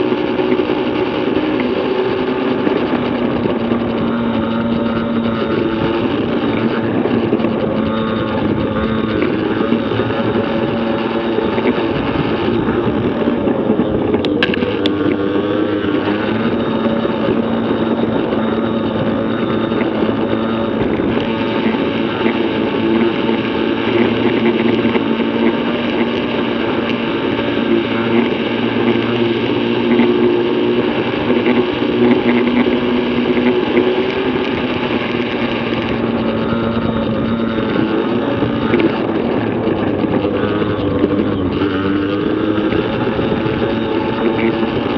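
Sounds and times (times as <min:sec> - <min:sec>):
two-stroke engine revving high: 0:00.0 - 0:44.9.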